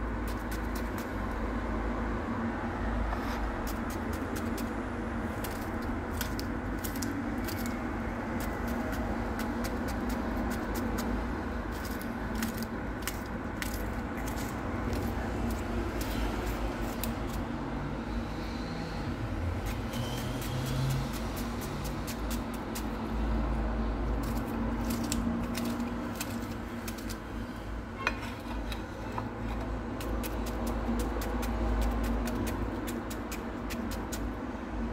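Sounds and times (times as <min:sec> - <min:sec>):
knife cutting cucumber: 0:00.2 - 0:01.2, 0:03.1 - 0:17.5, 0:19.5 - 0:23.2, 0:24.1 - 0:27.3, 0:28.0 - 0:34.4.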